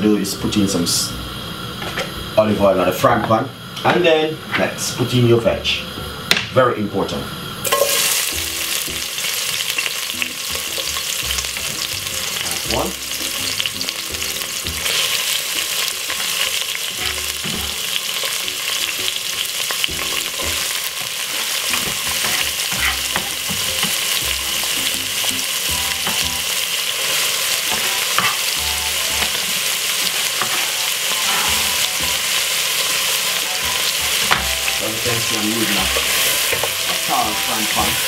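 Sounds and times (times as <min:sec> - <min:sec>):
vegetables sizzling in oil: 0:00.1 - 0:38.0.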